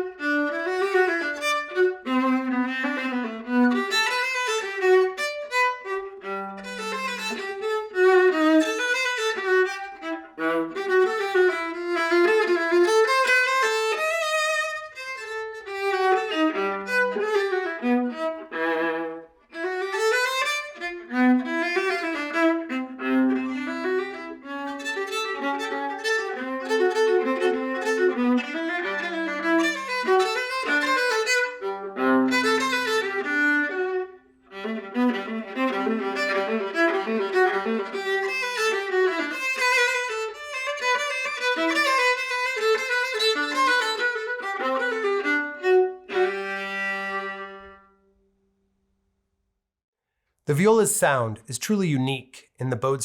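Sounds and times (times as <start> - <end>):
bowed viola melody: 0.0 - 47.9.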